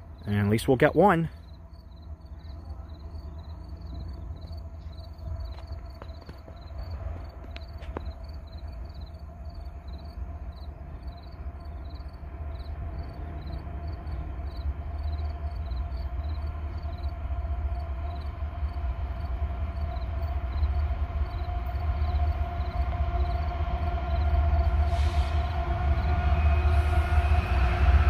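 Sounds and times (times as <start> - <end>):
insects chirping: 0.0 - 27.9
diesel freight train rumbling: 0.0 - 28.0.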